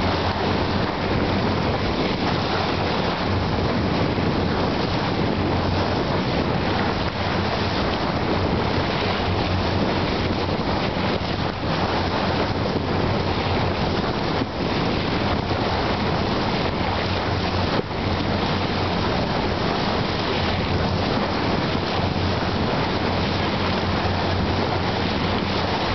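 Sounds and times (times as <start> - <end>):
boat engine humming: 0.0 - 25.9
water splashing along boat hull: 0.0 - 25.9
wind buffeting microphone: 0.0 - 25.9.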